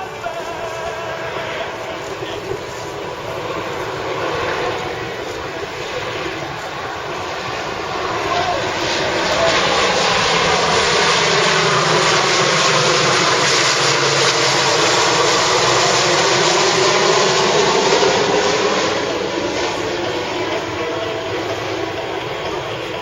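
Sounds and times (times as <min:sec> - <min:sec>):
turboprop aircraft passing low: 0:00.0 - 0:23.0.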